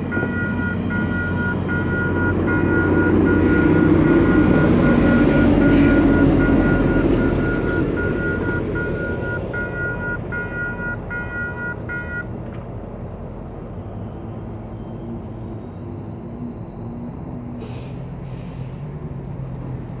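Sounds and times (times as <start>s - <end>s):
road traffic engine noise: 0.0s - 20.0s.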